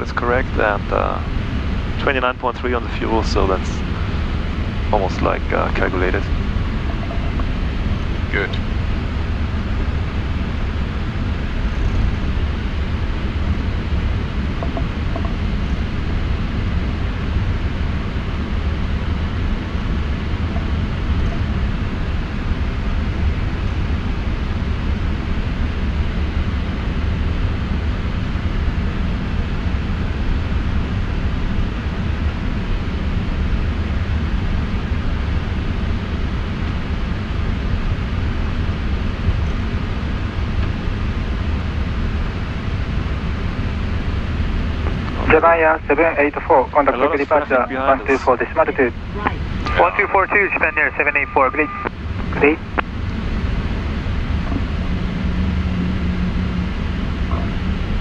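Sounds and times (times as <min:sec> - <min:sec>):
aircraft taxiing rumble: 0:00.0 - 0:58.0.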